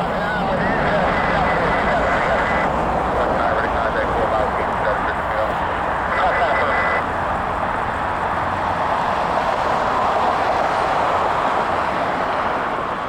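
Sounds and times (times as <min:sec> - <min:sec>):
jet engines at high power: 0:00.0 - 0:13.0.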